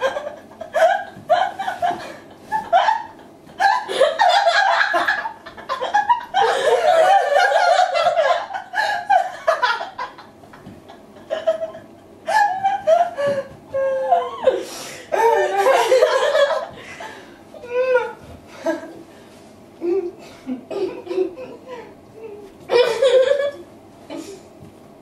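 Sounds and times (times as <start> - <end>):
women laughing: 0.0 - 19.0, 22.7 - 24.4.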